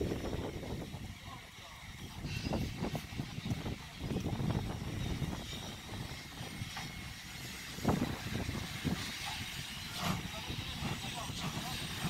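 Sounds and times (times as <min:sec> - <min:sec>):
locomotive exhaust beat: 0:00.0 - 0:12.0
steam hiss: 0:00.0 - 0:12.0
steam locomotive rumble: 0:00.0 - 0:12.0.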